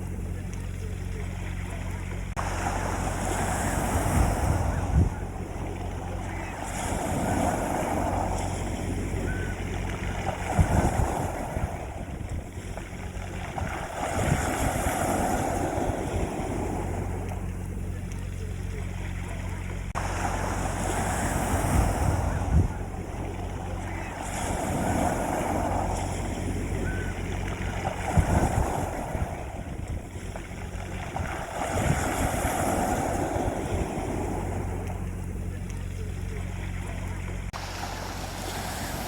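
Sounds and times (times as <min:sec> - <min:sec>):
sea waves washing onto beach: 0:00.0 - 0:39.0
steady low hum: 0:00.0 - 0:39.0
wind buffeting microphone: 0:00.0 - 0:39.0.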